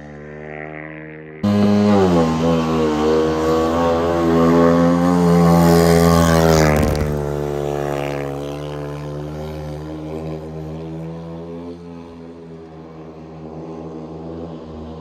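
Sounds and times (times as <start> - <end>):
racing motorcycle engine at high revs: 0.0 - 15.0.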